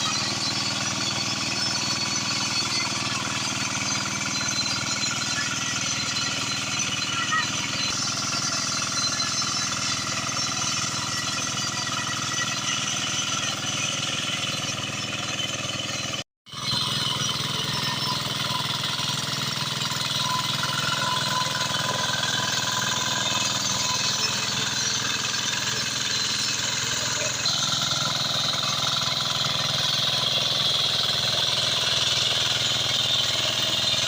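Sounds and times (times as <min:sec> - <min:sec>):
hand tractor engine chugging: 0:00.0 - 0:34.0.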